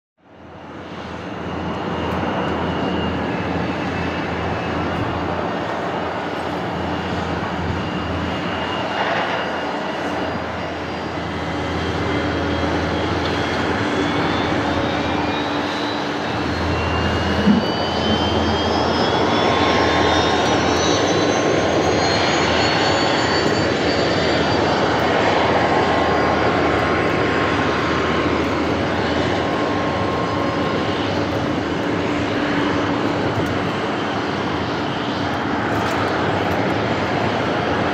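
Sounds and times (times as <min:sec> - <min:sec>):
jet engines spooling up: 0:00.4 - 0:37.9.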